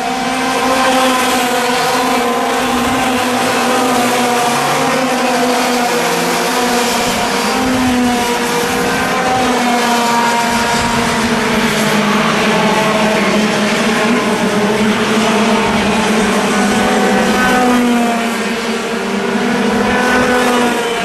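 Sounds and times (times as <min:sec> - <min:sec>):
race kart engines: 0:00.0 - 0:21.0.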